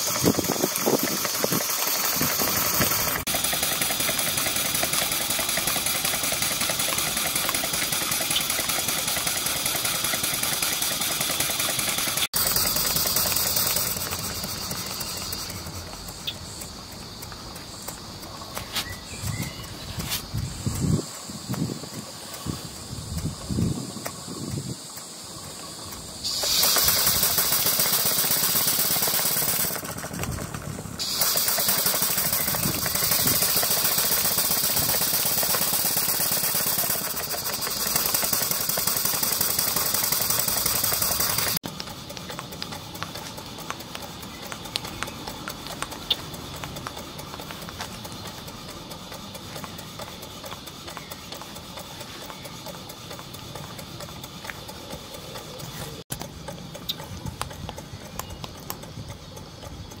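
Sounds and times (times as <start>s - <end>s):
steam engine mechanical ticks: 0.0s - 60.0s
steam hissing: 0.0s - 60.0s.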